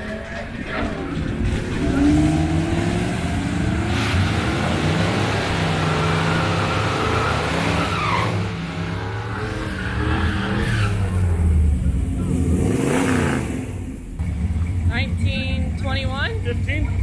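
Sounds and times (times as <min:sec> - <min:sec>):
drag racing cars at full throttle: 0:00.0 - 0:17.0.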